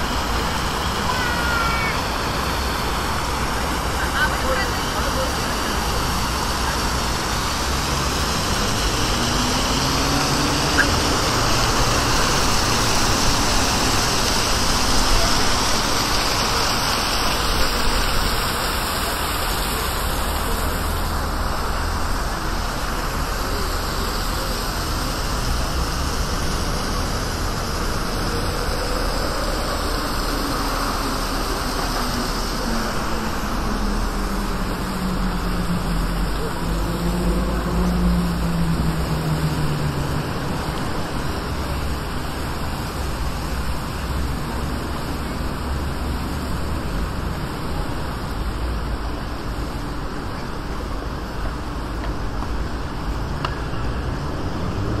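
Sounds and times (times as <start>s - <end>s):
city road traffic: 0.0s - 55.0s
fountain water splashing: 0.0s - 55.0s.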